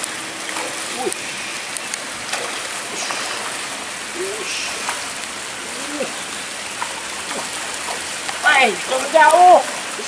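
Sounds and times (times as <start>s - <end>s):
water hissing: 0.0s - 10.0s.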